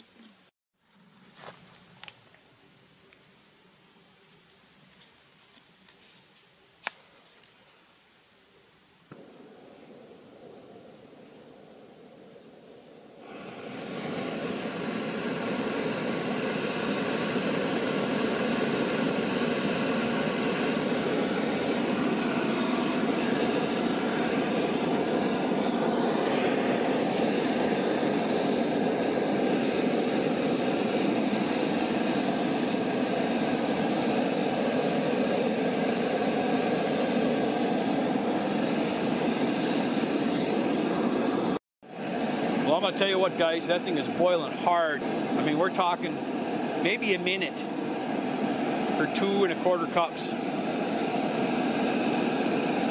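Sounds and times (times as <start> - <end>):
gas stove burner hissing: 9.1 - 52.9.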